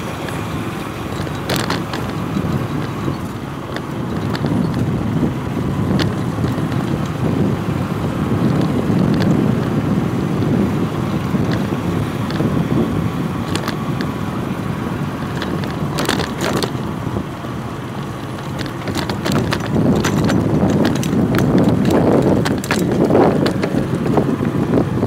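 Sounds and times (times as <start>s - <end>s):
golf cart tyres rumbling: 0.0s - 25.0s
sharp clicks and rattles: 0.0s - 25.0s
wind buffeting microphone: 0.0s - 25.0s.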